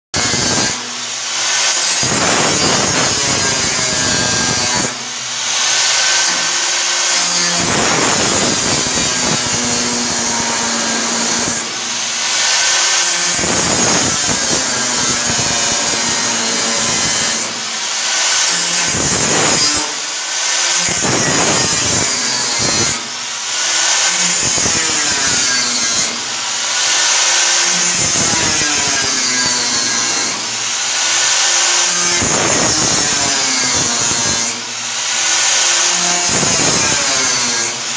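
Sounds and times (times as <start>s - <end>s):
angle grinder cutting steel: 0.2s - 37.9s.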